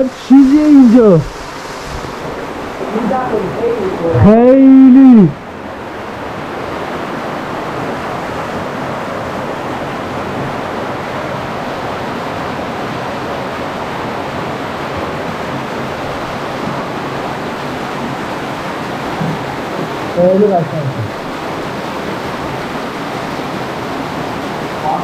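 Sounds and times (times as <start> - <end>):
waterfall roar: 0.0 - 25.0.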